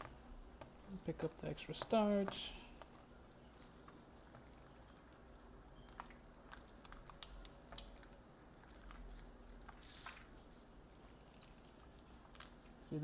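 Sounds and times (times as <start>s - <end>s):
slime squishing: 0.0s - 13.0s.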